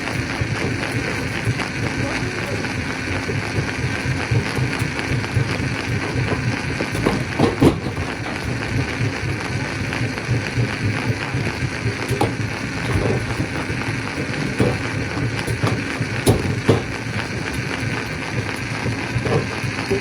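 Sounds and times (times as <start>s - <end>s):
stone crusher rattling grind: 0.0s - 20.0s.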